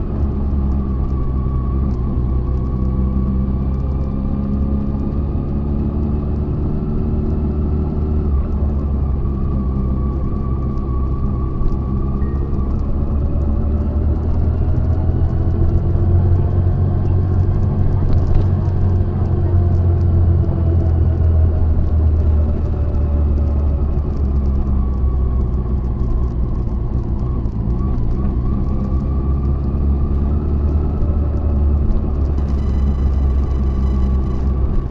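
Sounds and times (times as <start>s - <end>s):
motorcycle engine running: 6.9s - 34.9s.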